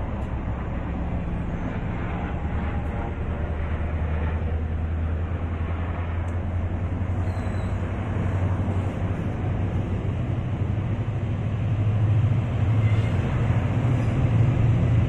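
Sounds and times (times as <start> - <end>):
train hum and rumble: 0.0 - 15.0.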